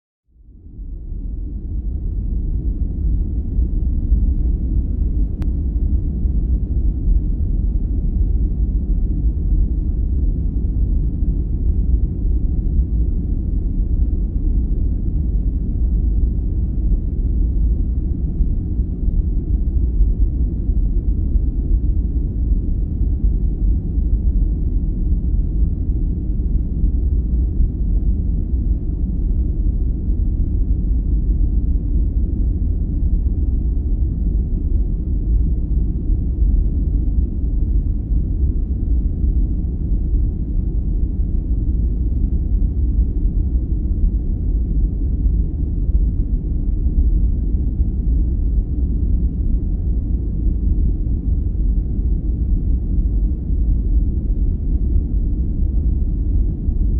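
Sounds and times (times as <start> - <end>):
deep steady noise: 0.4 - 56.9.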